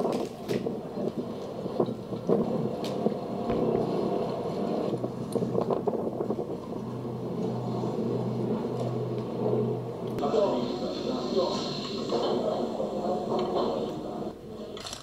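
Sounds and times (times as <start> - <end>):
low rumbling background noise: 0.0 - 15.0
steady low hum: 0.6 - 14.8.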